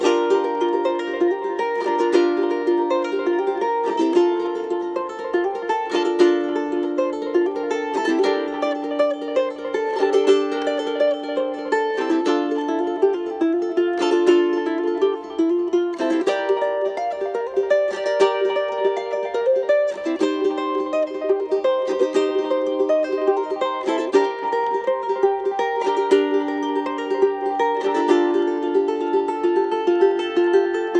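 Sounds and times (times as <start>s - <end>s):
ukulele playing: 0.0s - 30.9s.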